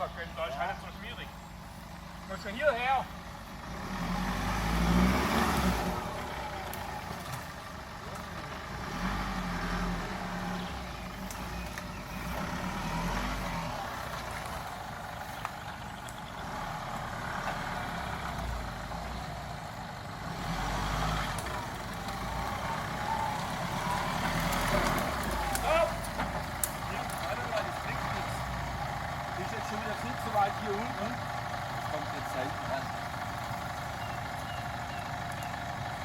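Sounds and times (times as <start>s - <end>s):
engine revving: 2.2s - 36.0s.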